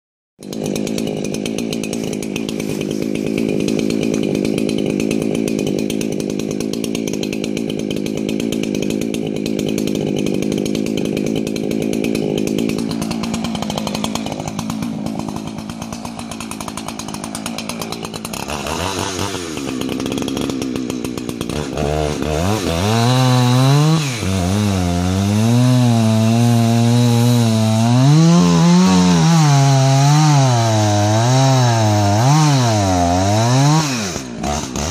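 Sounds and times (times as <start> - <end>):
chainsaw cutting wood: 0.4 - 34.9.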